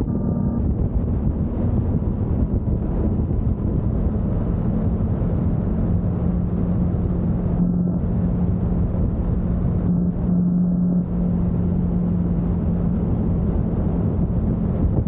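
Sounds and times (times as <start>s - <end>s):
motorcycle engine cruising: 0.0s - 15.0s
road noise: 0.0s - 15.0s
wind noise: 0.0s - 15.0s.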